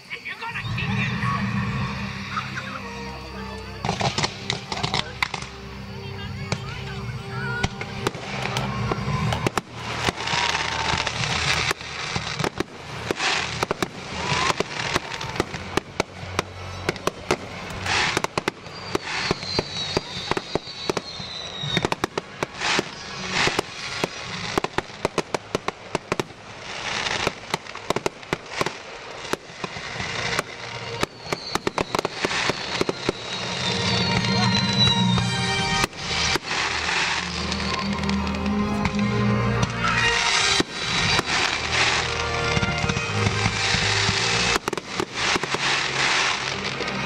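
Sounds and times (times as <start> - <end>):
firework bangs and crackles: 0.0 - 47.0
music: 0.4 - 25.0, 29.6 - 47.0.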